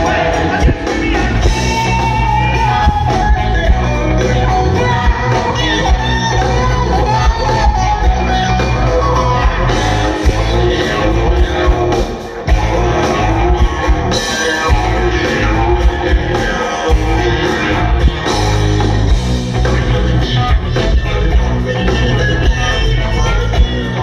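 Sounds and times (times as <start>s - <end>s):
live rock band: 0.0s - 24.0s
man singing: 0.0s - 24.0s.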